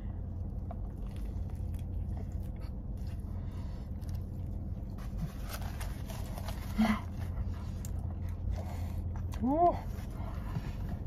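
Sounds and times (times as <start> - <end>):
low car cabin hum: 0.0 - 11.0.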